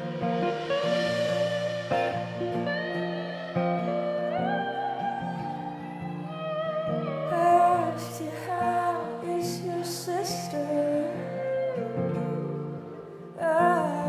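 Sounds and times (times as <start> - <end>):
electric guitar melody: 0.0 - 14.0
live band playing slow song: 0.0 - 14.0.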